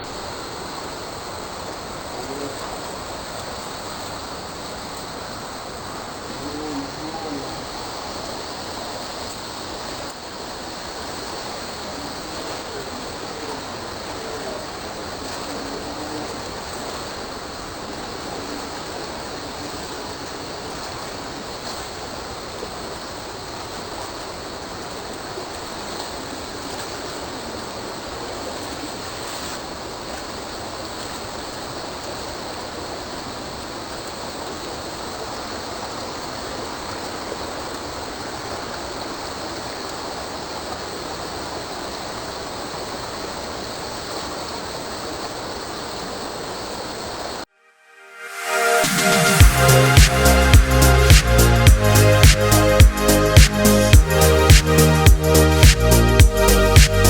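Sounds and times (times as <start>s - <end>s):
running water: 0.0s - 47.5s, 48.3s - 57.0s.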